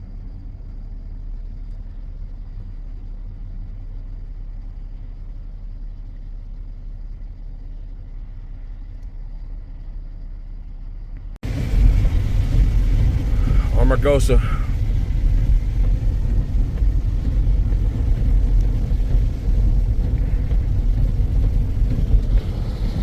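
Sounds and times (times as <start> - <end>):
car driving rumble: 0.0 - 23.0
loud rumble and hiss: 0.0 - 23.0.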